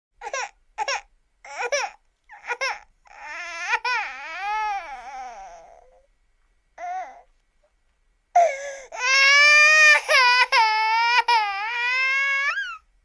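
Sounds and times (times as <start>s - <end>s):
baby crying: 0.2s - 6.0s, 6.8s - 7.3s, 8.4s - 12.8s.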